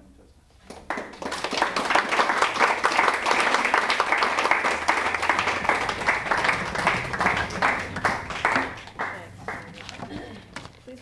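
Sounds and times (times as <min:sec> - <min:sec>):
audience applause: 0:00.6 - 0:10.6.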